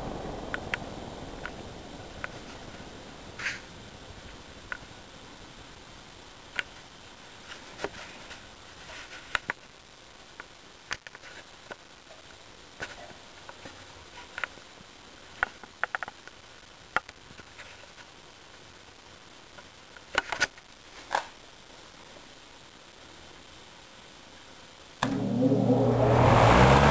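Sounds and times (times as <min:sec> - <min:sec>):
faint steady hiss: 0:00.0 - 0:26.9.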